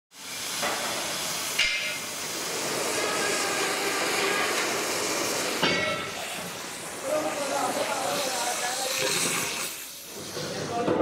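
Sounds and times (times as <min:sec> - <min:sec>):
cutting torch hissing: 0:00.1 - 0:11.0.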